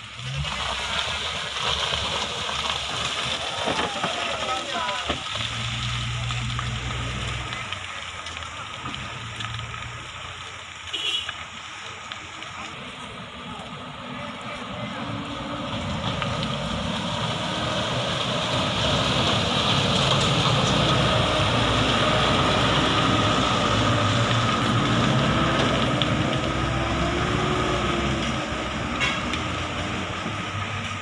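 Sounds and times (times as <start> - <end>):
truck engine crawling through mud: 0.0 - 31.0.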